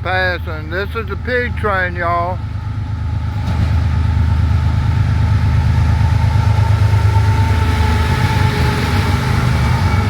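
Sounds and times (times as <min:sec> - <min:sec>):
locomotive engine rumble: 0:00.0 - 0:10.0
steady whine: 0:00.0 - 0:10.0.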